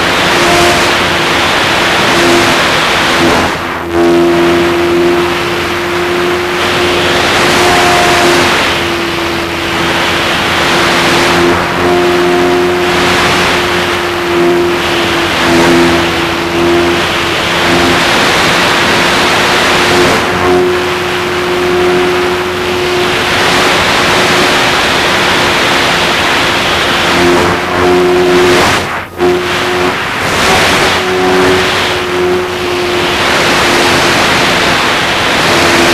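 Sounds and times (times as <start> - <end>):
model plane motor whine: 0.0 - 35.9
wind rushing over airframe: 0.0 - 35.9.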